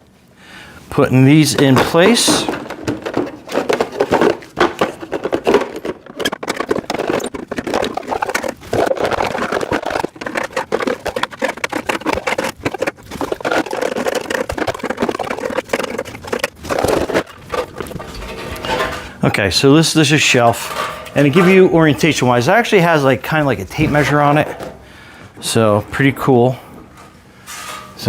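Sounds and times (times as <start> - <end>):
rack parts clattering and scraping: 1.0 - 28.0.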